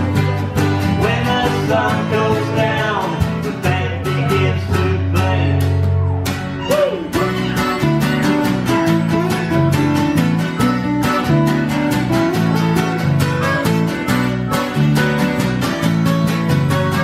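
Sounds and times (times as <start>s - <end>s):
bass guitar line: 0.0s - 17.0s
strummed acoustic guitar: 0.0s - 17.0s.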